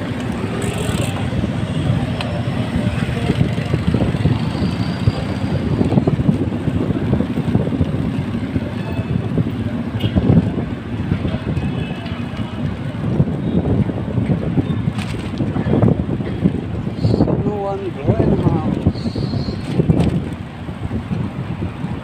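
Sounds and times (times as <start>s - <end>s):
road traffic: 0.0s - 22.0s
wind buffeting microphone: 0.0s - 22.0s.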